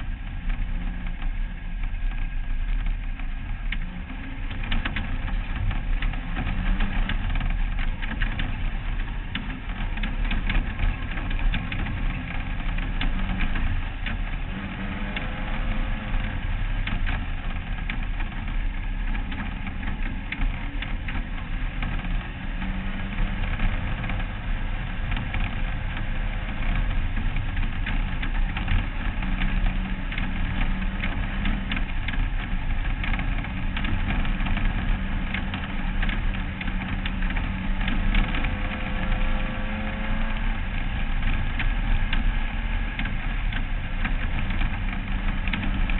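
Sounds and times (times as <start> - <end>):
race car engine running: 0.0 - 45.9
wind and chassis rumble: 0.0 - 45.9.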